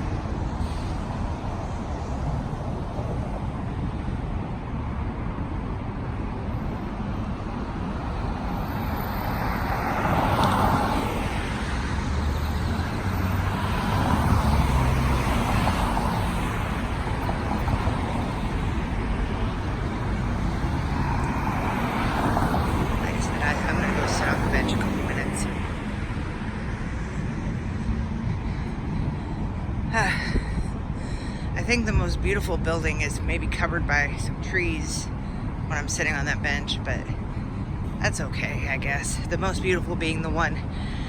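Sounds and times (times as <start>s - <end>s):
louder vehicles passing: 0.0s - 41.0s
steady hum of cars: 0.0s - 41.0s.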